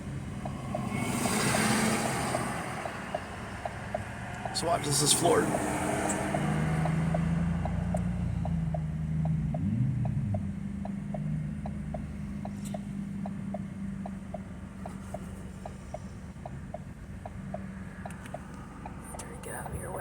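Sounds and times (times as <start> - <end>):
car engine droning: 0.0 - 20.0
indicator relay ticking: 0.0 - 20.0.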